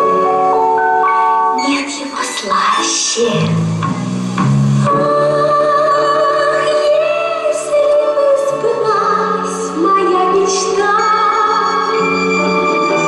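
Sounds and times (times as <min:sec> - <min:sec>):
instrumental backing: 0:00.0 - 0:13.0.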